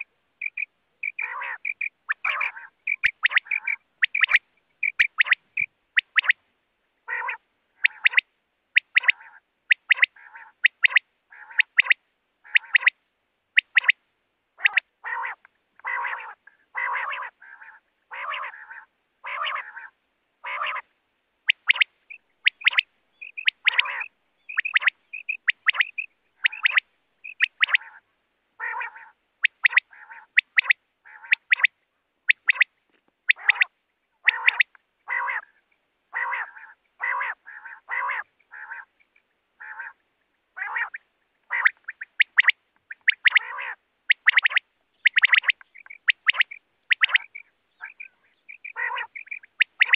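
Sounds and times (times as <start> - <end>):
quail calls: 0.0 - 6.4, 7.0 - 13.0, 13.6 - 14.0, 14.6 - 32.7, 33.3 - 39.0, 39.6 - 40.0, 40.6 - 49.9.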